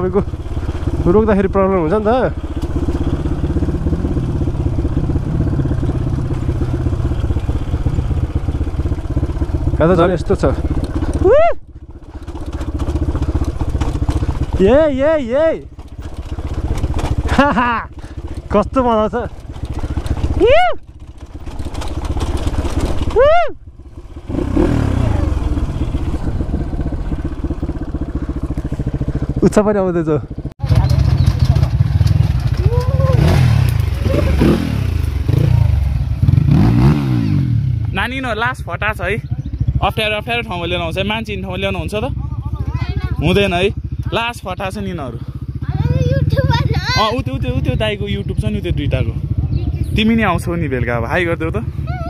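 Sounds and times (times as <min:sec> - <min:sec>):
dirt bike engine at low revs: 0:00.0 - 0:52.0.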